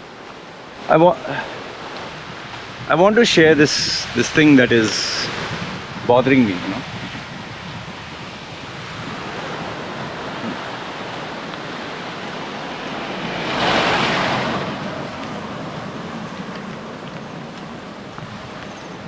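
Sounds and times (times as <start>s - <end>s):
wind across microphone: 0.0s - 19.0s.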